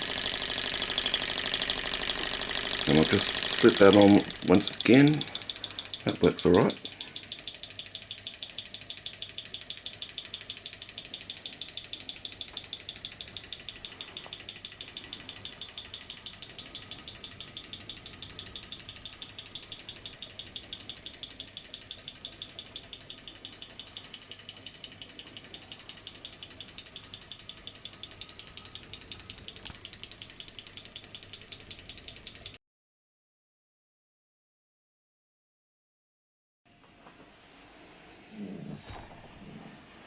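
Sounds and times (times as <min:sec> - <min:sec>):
stirling engine clicking: 0:00.0 - 0:32.6.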